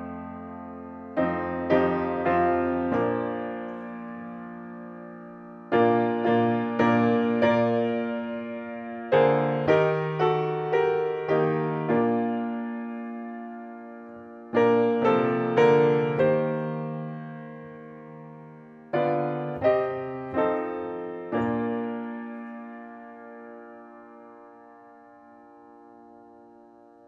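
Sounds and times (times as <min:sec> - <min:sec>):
slow solo piano: 0:00.0 - 0:27.0.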